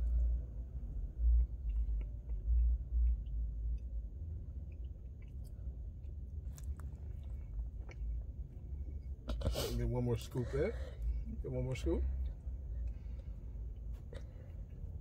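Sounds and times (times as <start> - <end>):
steady low rumble: 0.0 - 15.0
man chewing: 0.1 - 9.8, 12.3 - 15.0.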